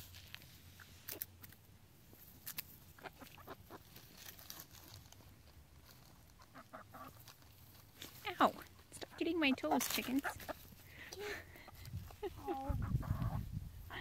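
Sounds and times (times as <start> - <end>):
hens pecking and scratching straw: 0.0 - 14.0.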